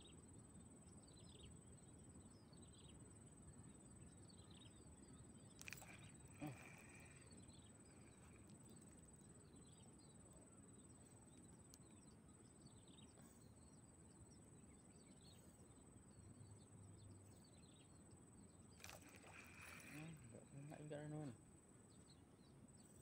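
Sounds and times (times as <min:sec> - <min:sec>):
high chirps of birds and insects: 0:00.0 - 0:23.0.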